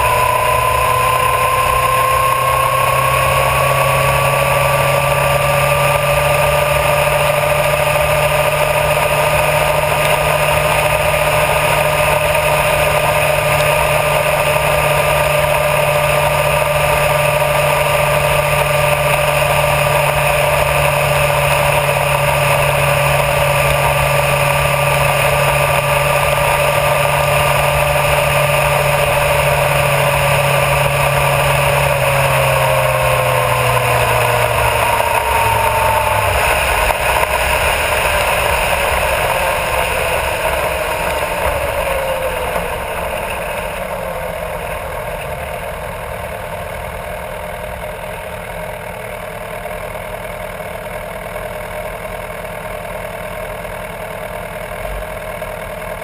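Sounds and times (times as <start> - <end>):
wind and tyre rush: 0.0 - 47.1
motorcycle engine whine: 0.0 - 56.0.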